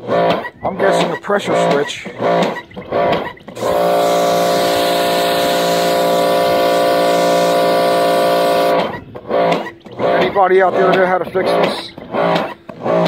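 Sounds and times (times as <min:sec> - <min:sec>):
pressure washer motor humming: 0:00.0 - 0:13.0.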